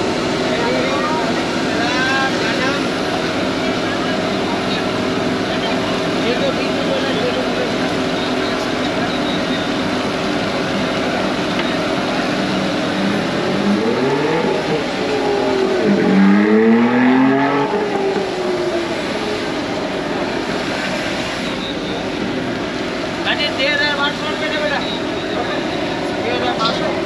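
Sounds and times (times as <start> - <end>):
street traffic: 0.0 - 27.0
vehicle engine revving: 0.0 - 27.0.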